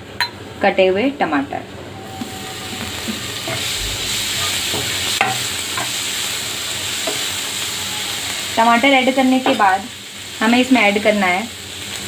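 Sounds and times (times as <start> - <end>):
tomatoes sizzling in hot oil: 2.0 - 12.0.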